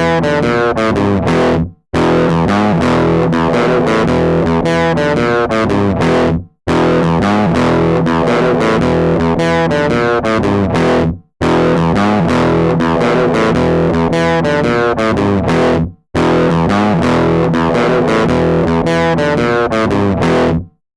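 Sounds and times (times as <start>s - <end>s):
rock music with distorted guitar: 0.0s - 20.7s.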